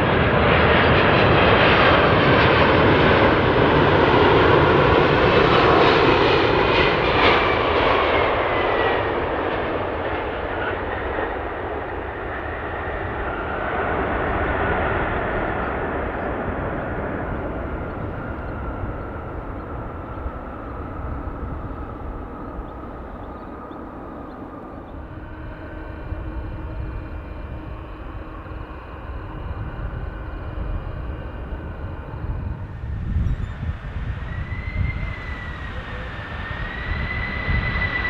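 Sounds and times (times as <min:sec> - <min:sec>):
jet engines rumbling and whining: 0:00.0 - 0:38.0.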